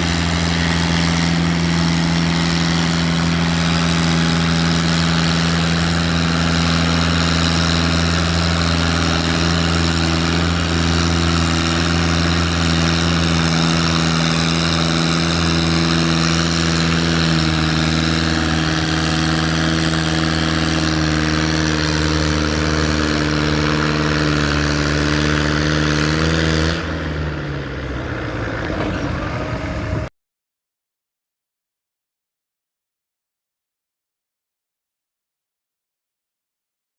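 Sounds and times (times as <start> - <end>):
tractor engine running: 0.0 - 30.1.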